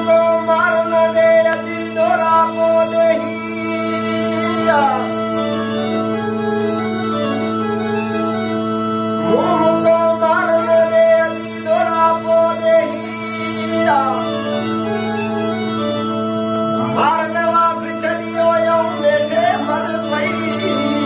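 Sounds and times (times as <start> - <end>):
person singing: 0.0 - 6.2, 9.2 - 16.2, 16.8 - 21.0
organ-like drone: 0.0 - 21.0.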